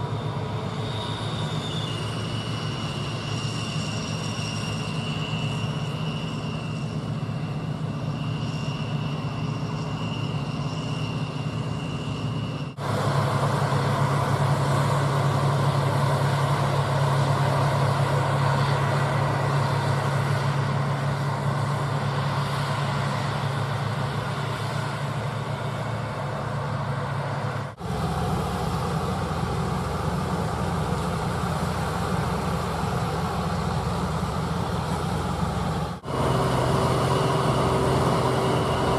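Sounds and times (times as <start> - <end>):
diesel farm machinery running: 0.0 - 38.9
high whine: 0.0 - 38.9.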